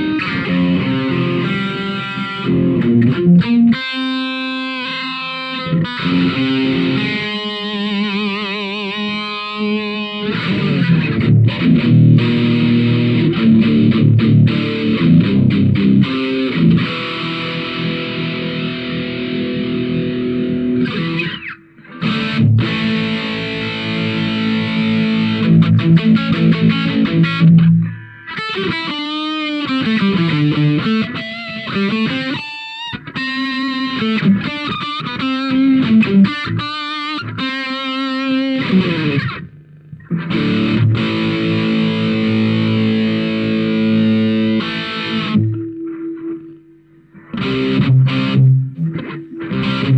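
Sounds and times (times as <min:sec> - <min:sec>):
distorted electric guitar: 0:00.0 - 0:49.9.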